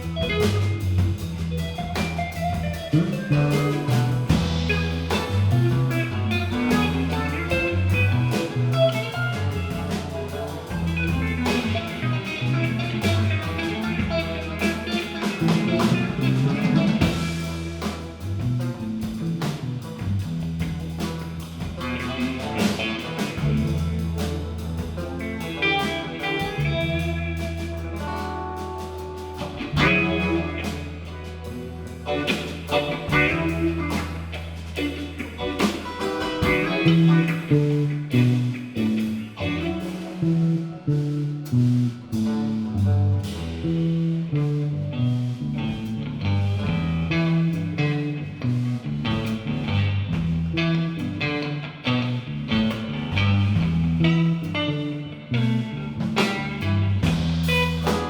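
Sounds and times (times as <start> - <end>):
drum kit: 0.0 - 58.0
guitar: 0.0 - 58.0
held bass notes: 0.0 - 58.0
live band playing: 0.0 - 58.0.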